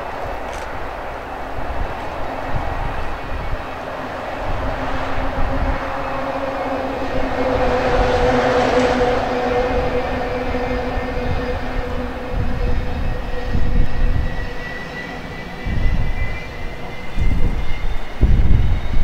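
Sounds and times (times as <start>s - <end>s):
jet engines spooling up: 0.0s - 19.0s
wind buffeting microphone: 0.0s - 19.0s.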